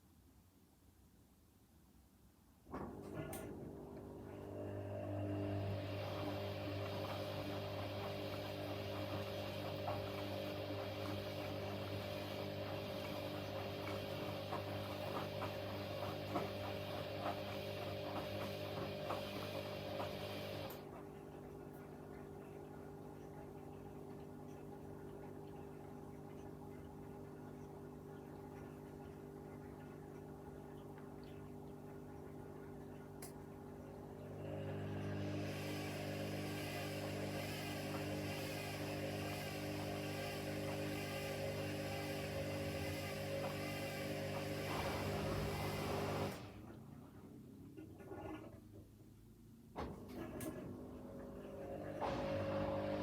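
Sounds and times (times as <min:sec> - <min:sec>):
washing machine motor hum: 0:02.6 - 0:53.0.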